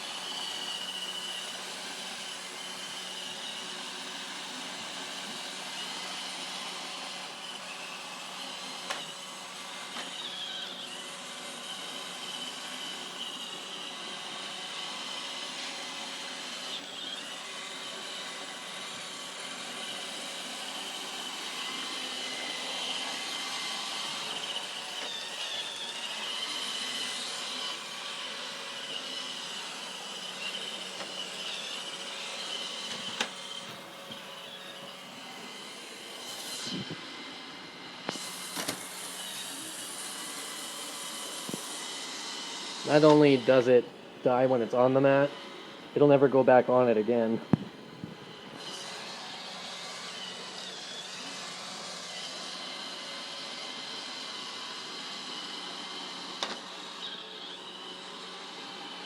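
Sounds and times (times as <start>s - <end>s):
robot vacuum running: 0.0s - 59.0s.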